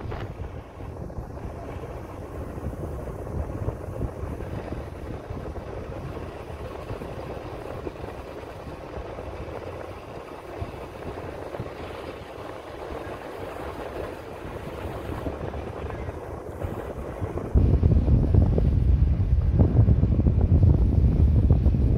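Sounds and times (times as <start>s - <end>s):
wind on microphone: 0.0s - 21.9s.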